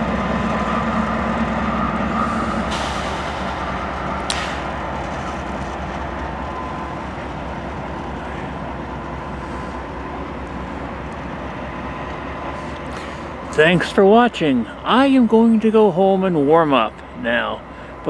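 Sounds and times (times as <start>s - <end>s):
train rumbling by: 0.0s - 18.0s.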